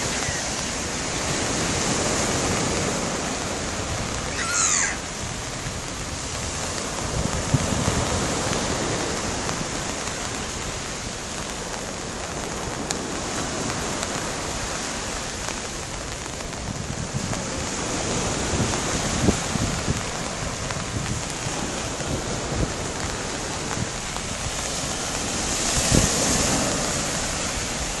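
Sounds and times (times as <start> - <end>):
waves washing up a sandy beach: 0.0 - 28.0
wind gusts on microphone: 0.0 - 28.0.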